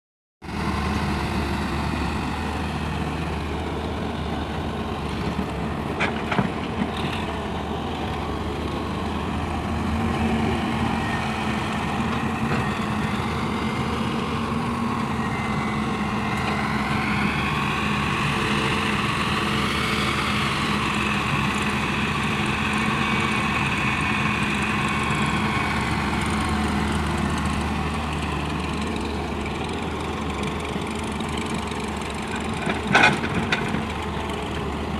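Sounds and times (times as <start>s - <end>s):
diesel engine running: 0.4s - 34.9s.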